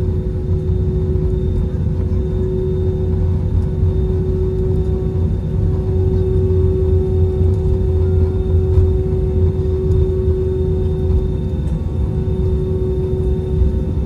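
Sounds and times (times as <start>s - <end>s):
aircraft cabin engine rumble: 0.0s - 14.0s
constant cabin hum: 0.0s - 14.0s.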